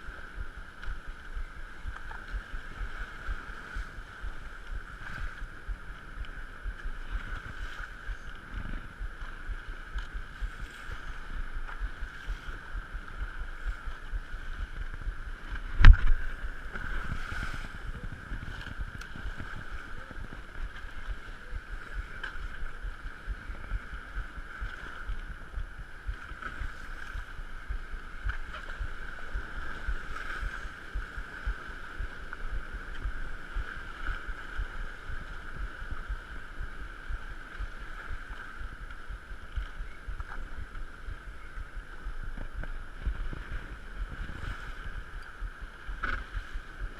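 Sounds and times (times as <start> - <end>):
steady high hum: 0.0 - 46.9
wind buffeting microphone: 0.0 - 46.9.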